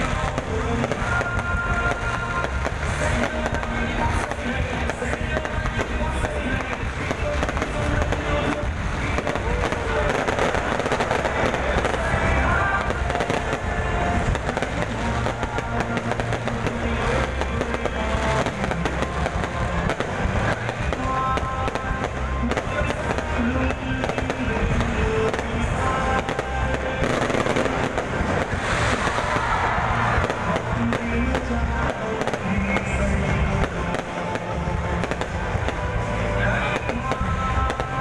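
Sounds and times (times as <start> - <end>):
fireworks bursting and crackling: 0.0 - 38.0
music: 0.0 - 38.0.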